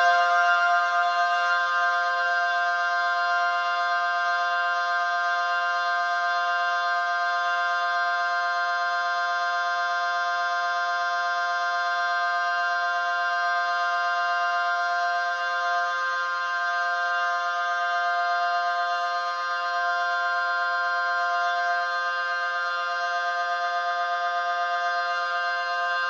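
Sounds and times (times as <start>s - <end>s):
steady two-tone siren: 0.0s - 26.0s.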